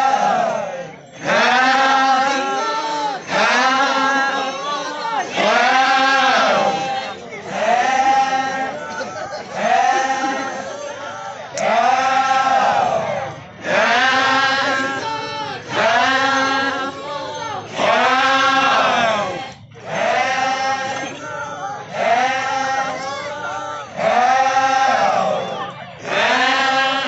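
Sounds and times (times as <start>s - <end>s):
group chanting in unison: 0.0s - 27.0s.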